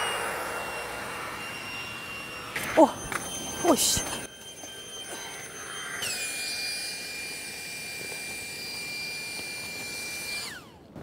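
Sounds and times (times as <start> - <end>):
electric air pump whining: 0.0 - 11.0.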